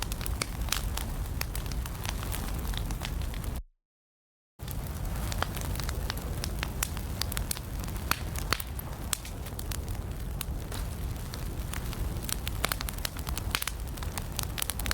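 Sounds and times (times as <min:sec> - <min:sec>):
wood fire crackling and popping: 0:00.0 - 0:03.6, 0:04.6 - 0:14.9.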